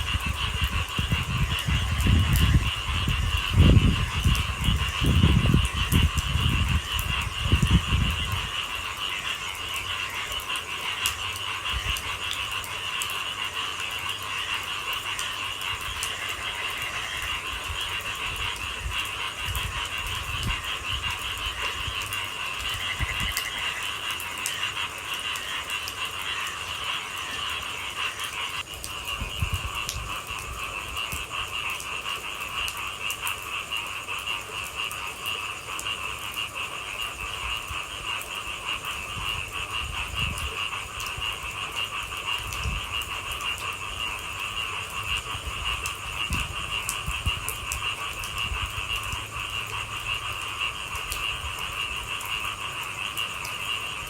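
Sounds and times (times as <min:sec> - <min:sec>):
chorus of frogs calling: 0:00.0 - 0:54.0.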